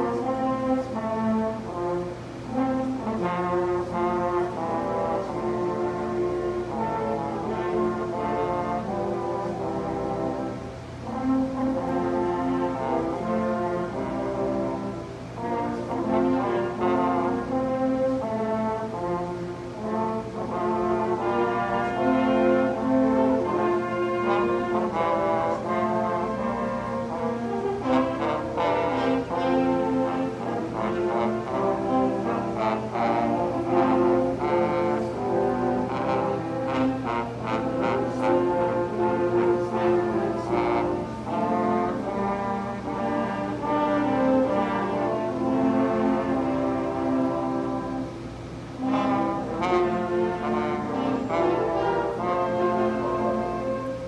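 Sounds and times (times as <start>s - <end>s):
french horns playing in harmony: 0.0s - 54.0s.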